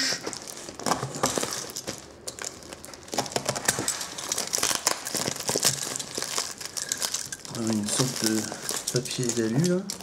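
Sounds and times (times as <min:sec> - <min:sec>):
bubble-wrap mailer crinkling: 0:00.0 - 0:10.0.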